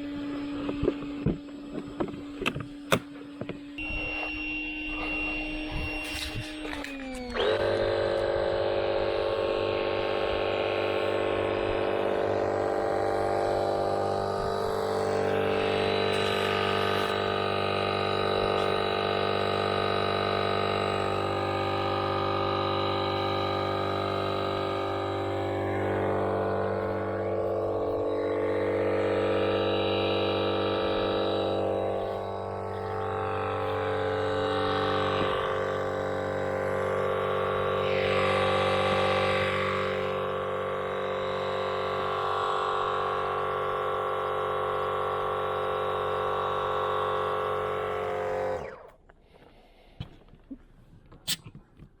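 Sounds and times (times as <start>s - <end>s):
small motor droning hum: 0.0s - 51.2s.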